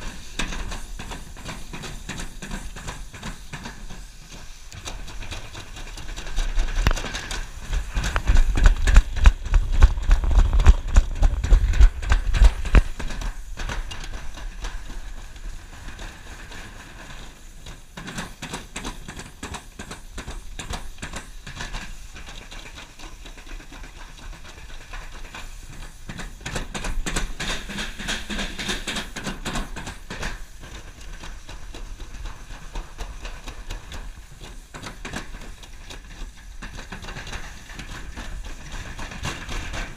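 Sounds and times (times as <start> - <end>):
sled rumbling on metal trough: 0.0 - 39.9.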